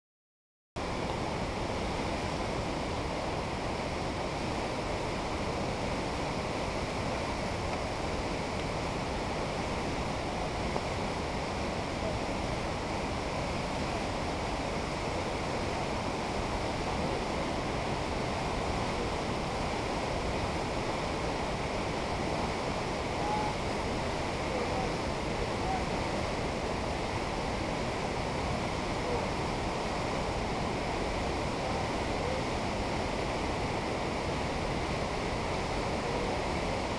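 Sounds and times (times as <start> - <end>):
river rushing over rocks: 0.8 - 36.9.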